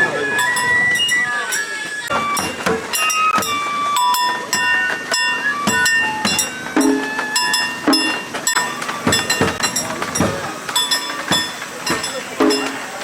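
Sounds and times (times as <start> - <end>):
ringing clinks: 0.0 - 13.0.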